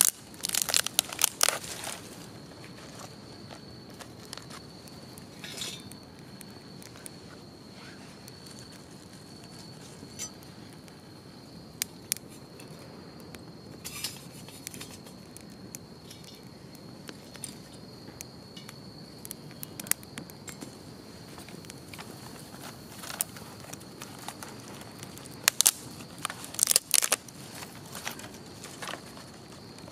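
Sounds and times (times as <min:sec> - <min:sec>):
burning sticks popping: 0:00.0 - 0:29.9
insect trill: 0:00.0 - 0:29.9
wood fire crackling: 0:00.0 - 0:29.9.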